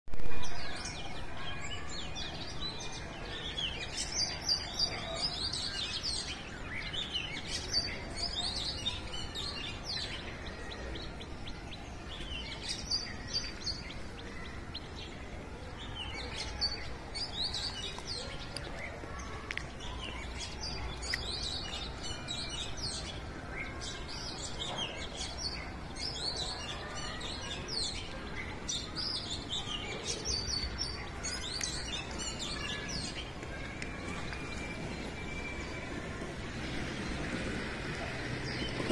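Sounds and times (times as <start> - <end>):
low steady background noise: 0.1 - 38.9
songbirds chirping and trilling: 0.2 - 38.9.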